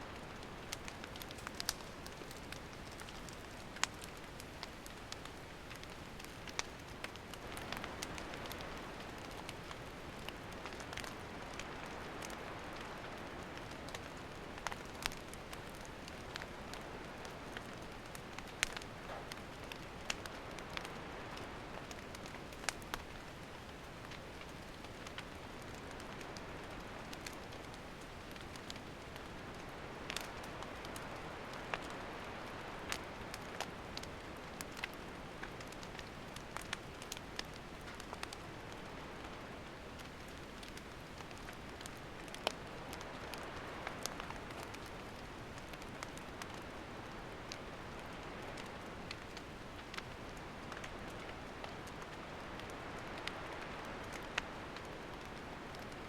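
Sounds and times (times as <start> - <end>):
crackles and pops of burning wood: 0.0 - 56.0
hiss of campfire flames: 0.1 - 56.0.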